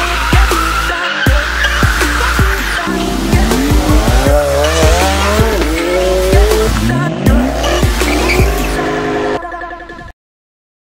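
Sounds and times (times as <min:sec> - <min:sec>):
tyres squealing: 0:00.0 - 0:08.9
bass-heavy music with kick drum: 0:00.0 - 0:09.4
sports car engines revving: 0:00.0 - 0:09.4.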